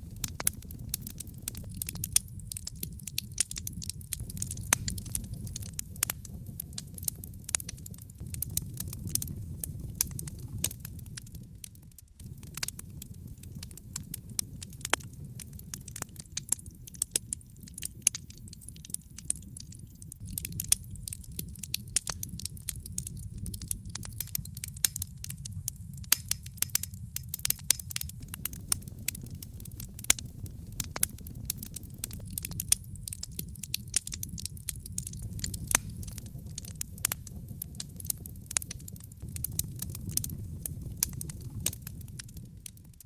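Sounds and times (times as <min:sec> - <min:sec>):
fireplace fire crackling: 0:00.0 - 0:43.0
low rumble of fire: 0:00.0 - 0:43.0.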